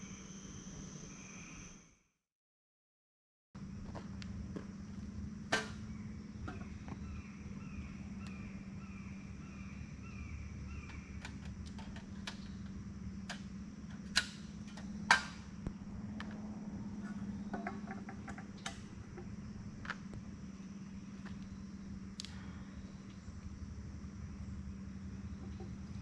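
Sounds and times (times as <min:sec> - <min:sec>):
insect drone: 0:00.0 - 0:02.2, 0:03.6 - 0:26.0.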